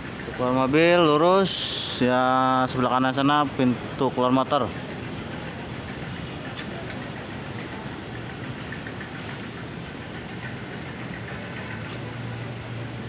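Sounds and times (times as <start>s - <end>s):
street traffic engine hum: 0.0s - 13.0s.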